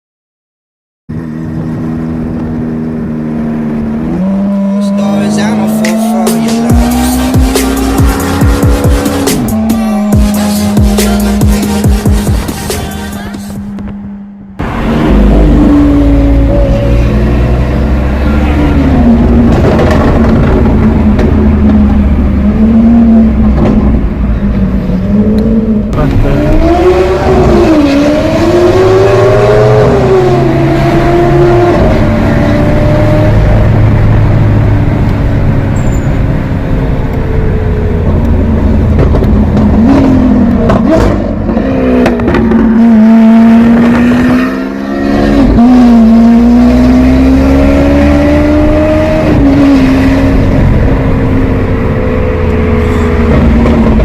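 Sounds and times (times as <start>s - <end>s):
sports car engine revving: 1.1s - 54.0s.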